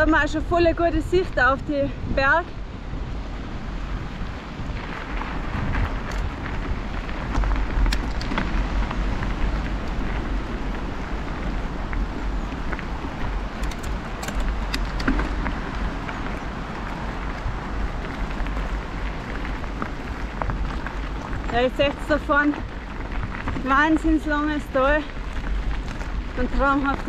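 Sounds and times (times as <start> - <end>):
wind rumbling on microphone: 0.0 - 27.0
small clicks and crackles: 4.7 - 27.0.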